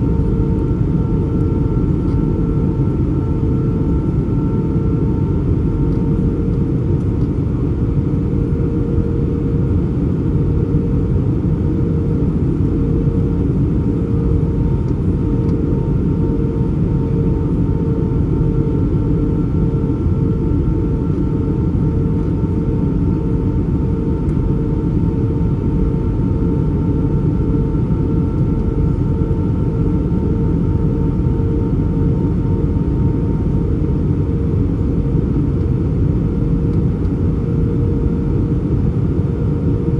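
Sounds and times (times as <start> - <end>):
aircraft engines droning in cabin: 0.0 - 39.9.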